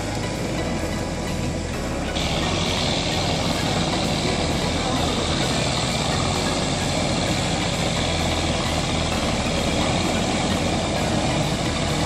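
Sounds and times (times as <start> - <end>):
rotavator engine running: 0.0 - 12.0.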